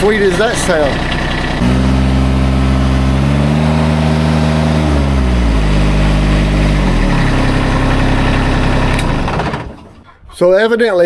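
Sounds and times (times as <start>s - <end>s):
mower diesel engine running: 0.0s - 10.3s.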